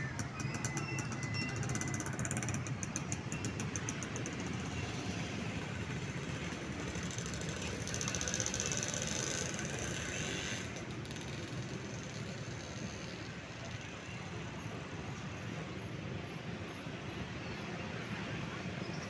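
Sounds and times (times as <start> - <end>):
diesel locomotives idling: 0.0 - 17.0.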